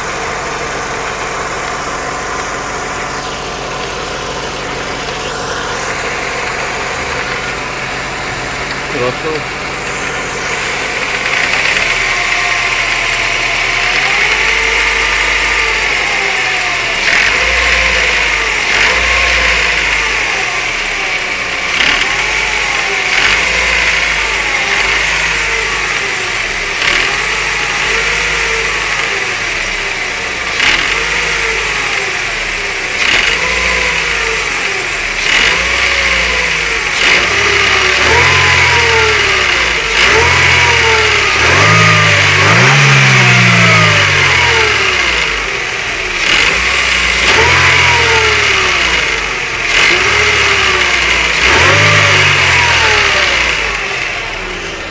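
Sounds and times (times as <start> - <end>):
car engine revving up and down: 0.0 - 54.9.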